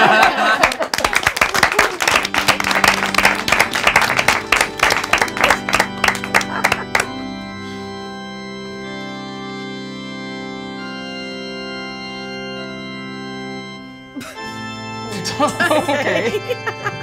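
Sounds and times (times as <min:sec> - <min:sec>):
organ playing sustained chords: 0:01.6 - 0:17.0.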